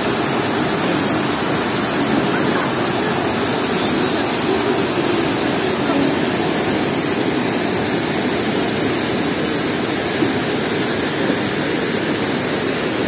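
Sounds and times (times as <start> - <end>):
waterfall rushing roar: 0.0 - 13.0.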